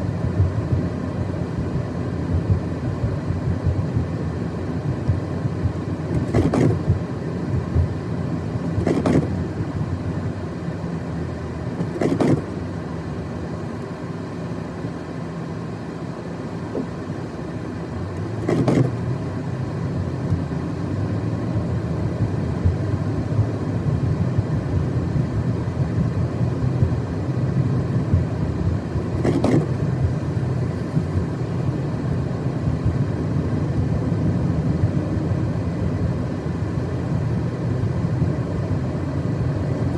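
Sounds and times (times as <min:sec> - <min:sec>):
car tyres and engine rumbling: 0:00.0 - 0:39.9.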